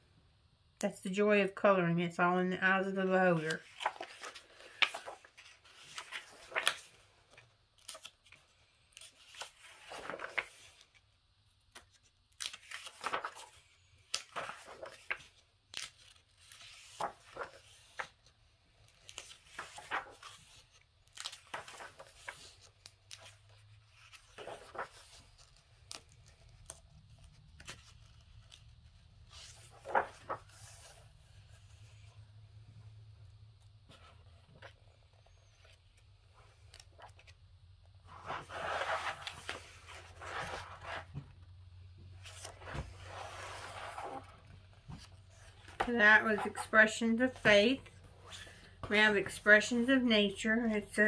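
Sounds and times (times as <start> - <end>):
book pages turning: 3.4 - 32.2, 33.6 - 41.4, 42.0 - 49.6.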